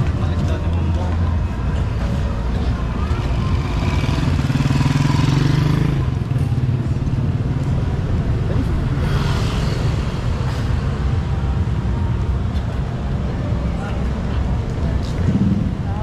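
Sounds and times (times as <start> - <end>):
vehicle engines running: 0.0 - 16.0.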